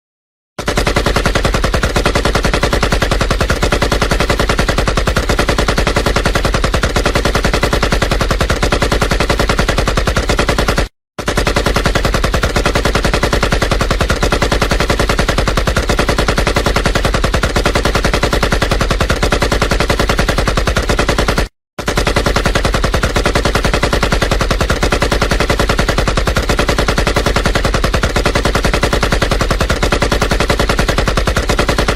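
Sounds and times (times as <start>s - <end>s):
machine gun firing: 0.6s - 31.9s.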